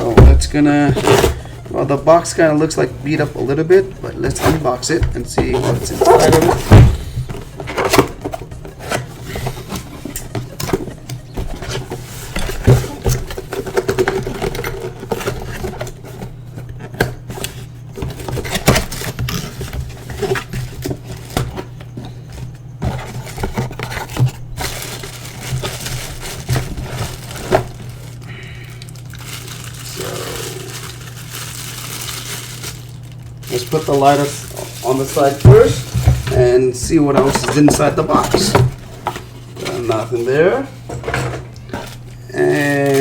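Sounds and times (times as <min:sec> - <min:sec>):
steady low hum: 0:00.0 - 0:43.0
cardboard box being opened: 0:04.2 - 0:28.2, 0:29.4 - 0:43.0.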